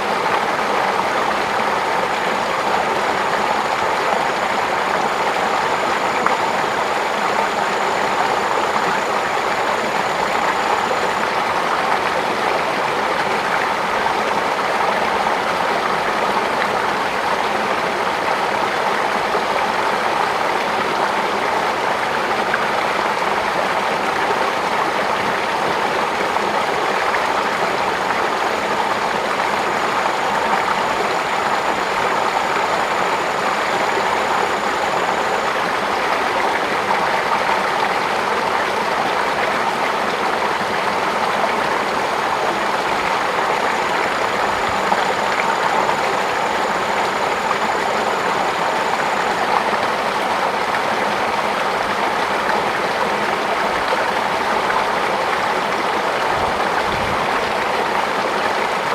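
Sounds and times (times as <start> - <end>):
flowing water rushing: 0.0 - 58.9
thin high whine: 0.5 - 53.6.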